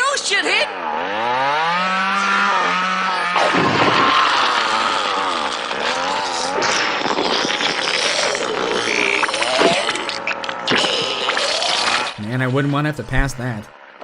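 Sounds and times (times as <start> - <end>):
chainsaw revving: 0.6 - 12.3.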